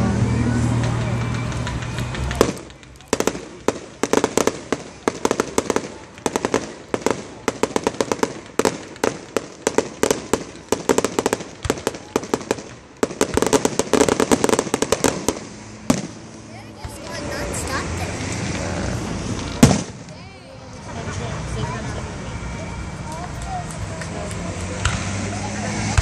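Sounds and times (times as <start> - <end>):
fireworks cracks and bangs: 0.0 - 22.4, 23.0 - 26.0.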